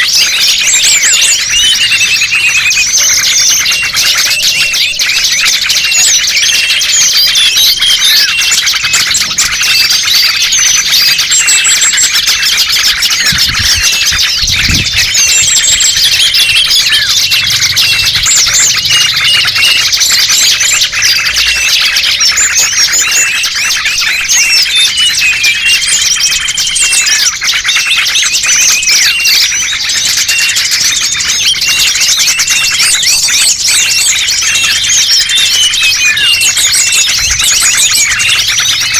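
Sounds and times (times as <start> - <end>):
many small birds chirping: 0.0 - 38.9.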